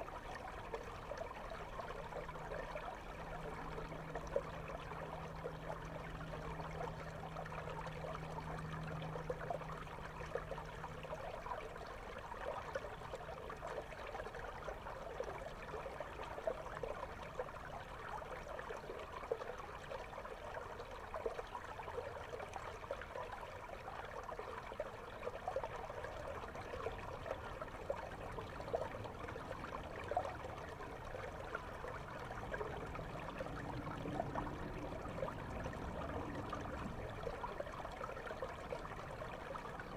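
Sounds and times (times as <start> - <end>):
underwater river flow: 0.0 - 39.9.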